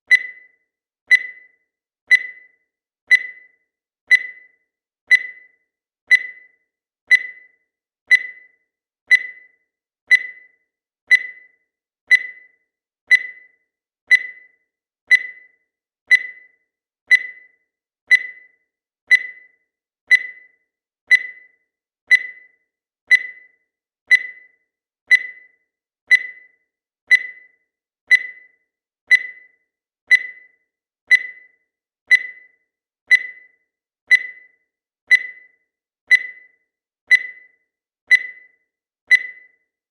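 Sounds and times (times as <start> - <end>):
countdown timer beeping: 0.1 - 39.8.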